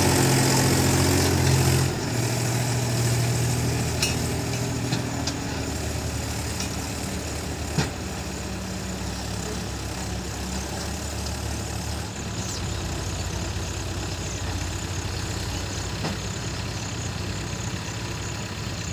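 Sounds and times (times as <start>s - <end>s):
heavy engine running at low revs: 0.0s - 18.9s.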